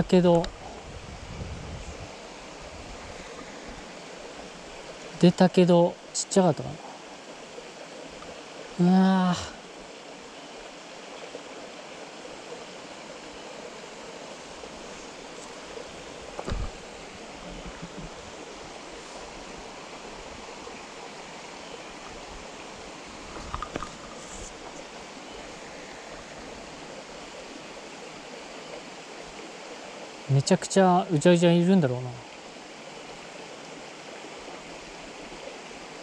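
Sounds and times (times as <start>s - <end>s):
stream running over rocks: 0.0s - 36.0s.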